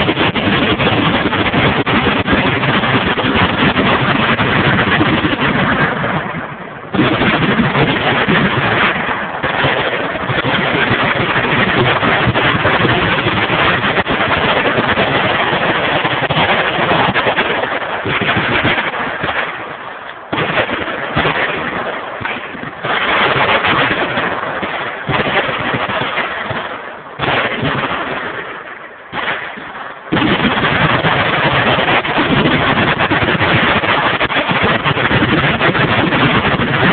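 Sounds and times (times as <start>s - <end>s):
machine gun fire: 0.0s - 36.9s.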